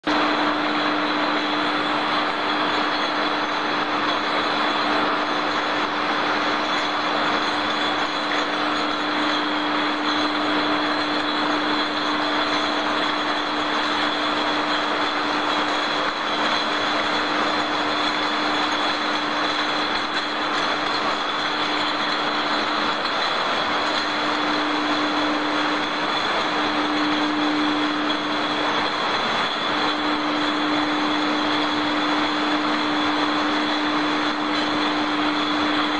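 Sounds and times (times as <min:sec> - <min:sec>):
constant machine hum: 0:00.0 - 0:35.9
conveyor machinery din: 0:00.0 - 0:35.9
high machine whine: 0:00.0 - 0:35.9.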